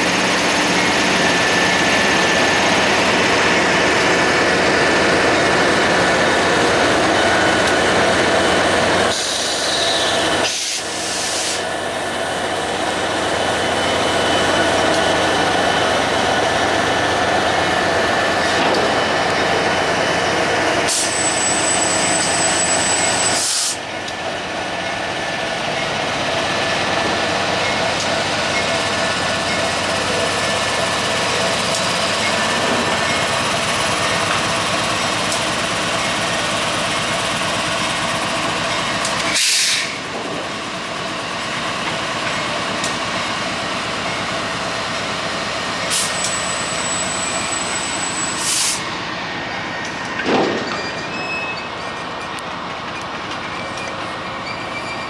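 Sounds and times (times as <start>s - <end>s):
diesel train engine and rolling noise: 0.0s - 55.0s.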